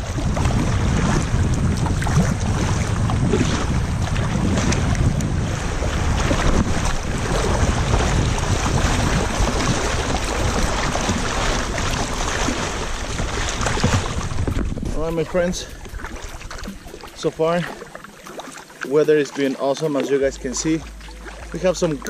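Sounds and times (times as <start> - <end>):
wind buffeting microphone: 0.0 - 18.4
river water rushing and splashing: 0.0 - 22.0.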